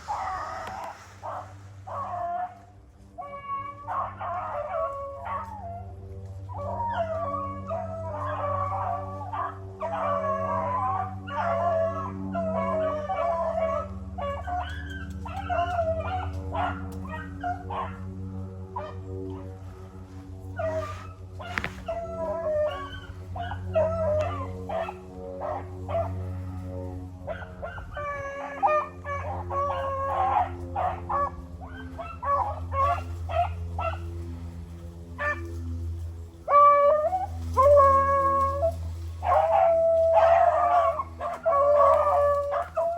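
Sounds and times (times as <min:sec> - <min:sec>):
hounds baying and howling: 0:00.0 - 0:42.9
steady low hum: 0:00.0 - 0:42.9.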